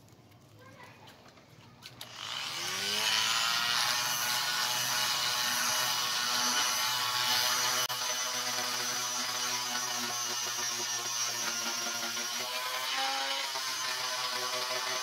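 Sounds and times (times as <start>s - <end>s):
multi-tool sanding steel: 2.0s - 15.0s.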